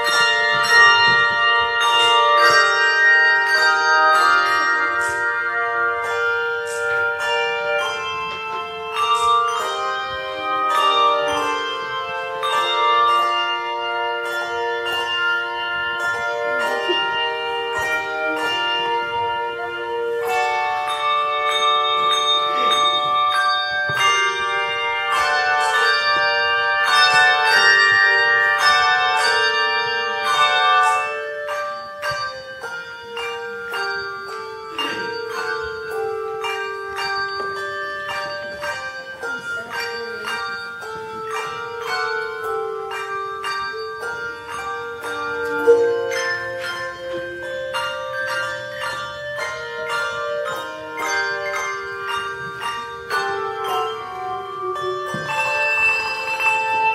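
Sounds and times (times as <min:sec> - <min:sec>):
handbell choir ringing a tune: 0:00.0 - 0:56.9.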